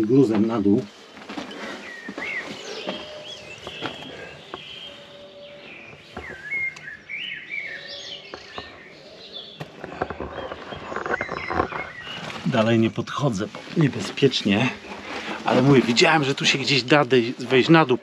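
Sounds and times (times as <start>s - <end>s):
footsteps on loose rubble: 0.0s - 7.0s, 8.3s - 16.9s
songbirds singing: 0.0s - 18.0s.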